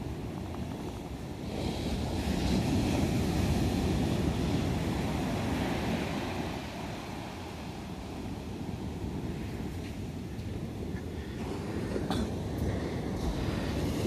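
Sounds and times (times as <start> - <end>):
ocean surf breaking: 0.0 - 14.0
wind rumbling on microphone: 0.0 - 14.0.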